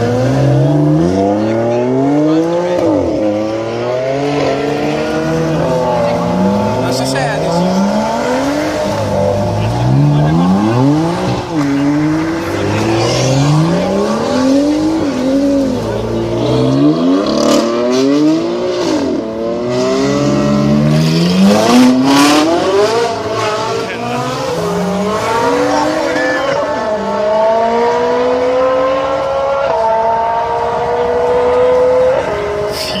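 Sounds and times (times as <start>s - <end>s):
car engine revving hard: 0.0s - 33.0s.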